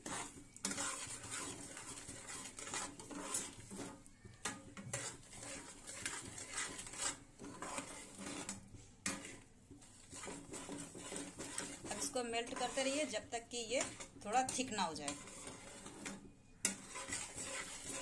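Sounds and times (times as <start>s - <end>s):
spoon scraping metal pan: 0.0s - 18.0s.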